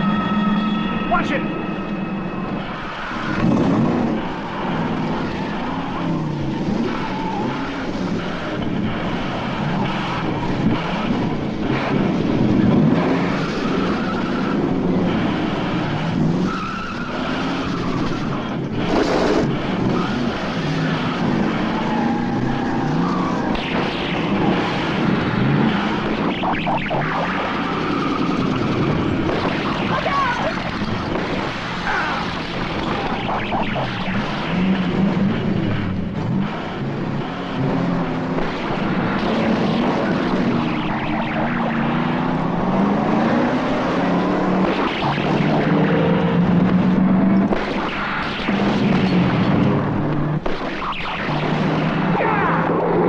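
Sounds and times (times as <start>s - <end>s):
car engine revving hard: 2.5s - 50.5s.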